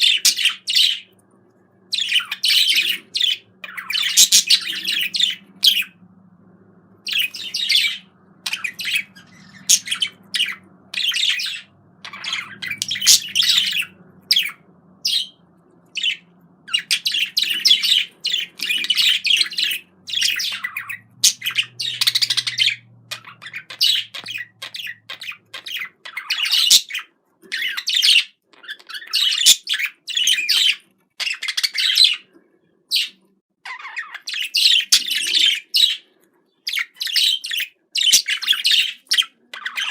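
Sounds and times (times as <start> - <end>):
budgerigar chattering: 0.0 - 1.1, 1.9 - 6.0, 7.1 - 32.3, 36.7 - 39.9.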